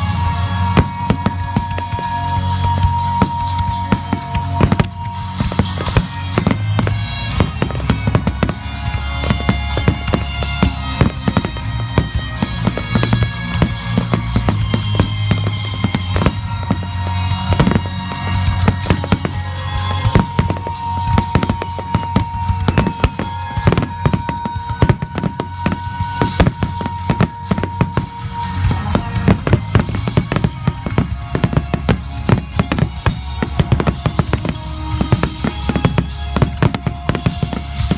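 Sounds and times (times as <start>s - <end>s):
fireworks bursting: 0.0s - 37.9s
music playing: 0.0s - 37.9s.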